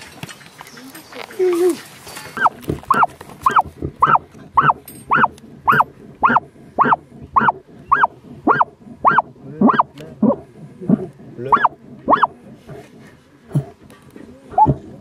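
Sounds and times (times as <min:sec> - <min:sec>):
dog barking underground: 0:02.4 - 0:15.0.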